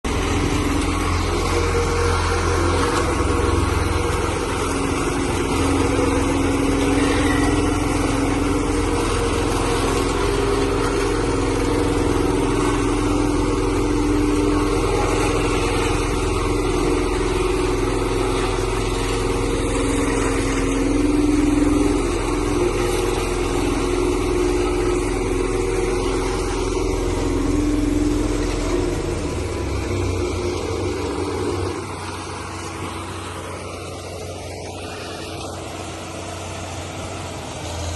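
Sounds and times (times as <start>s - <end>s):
road roller diesel engine running: 0.0s - 37.9s.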